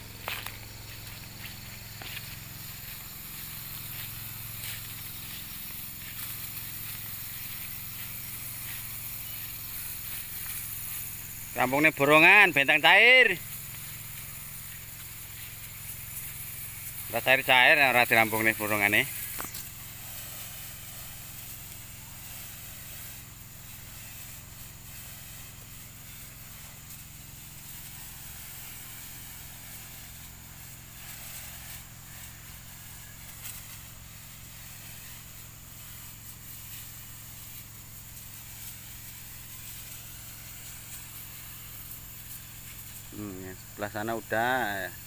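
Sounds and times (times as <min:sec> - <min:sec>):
pressure washer hiss: 0:00.0 - 0:45.0.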